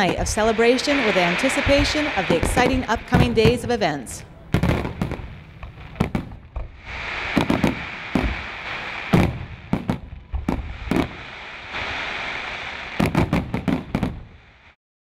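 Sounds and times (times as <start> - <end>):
fireworks bangs: 0.0 - 14.8
fireworks crackling hiss: 0.0 - 14.8.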